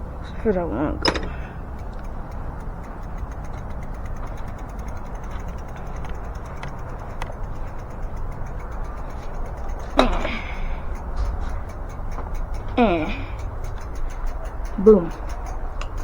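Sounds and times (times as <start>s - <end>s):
bicycle freewheel ticking: 0.0s - 16.0s
low rumble of handling: 0.0s - 16.0s.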